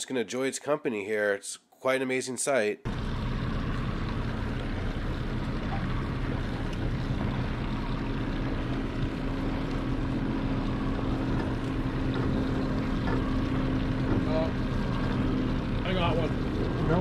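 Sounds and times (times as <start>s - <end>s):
outboard motor running: 2.9s - 17.0s
water and wind noise: 2.9s - 17.0s.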